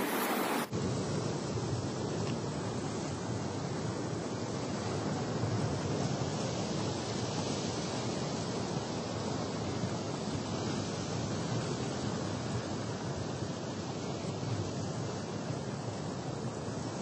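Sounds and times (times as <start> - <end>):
surf washing against rocks: 0.0 - 17.0.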